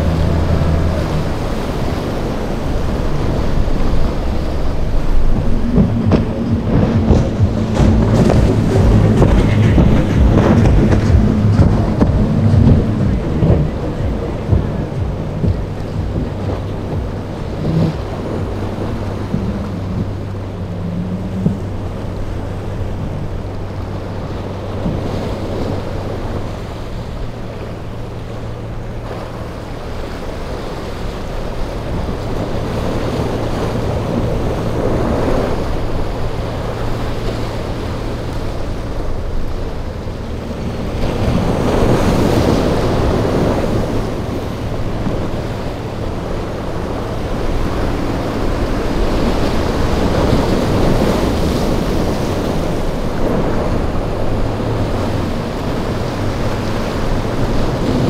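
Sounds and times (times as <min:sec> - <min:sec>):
breaking surf: 0:00.0 - 0:58.0
outboard engines humming: 0:00.0 - 0:58.0
wind buffeting microphone: 0:00.0 - 0:58.0.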